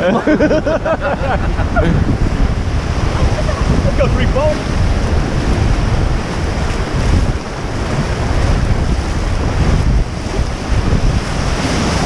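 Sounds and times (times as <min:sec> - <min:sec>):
whitewater rushing: 0:00.0 - 0:12.0
wind buffeting microphone: 0:00.0 - 0:12.0.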